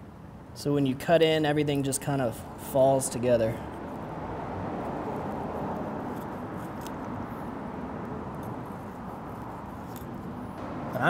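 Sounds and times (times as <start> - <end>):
steady background hiss: 0.0 - 4.2, 5.0 - 11.0.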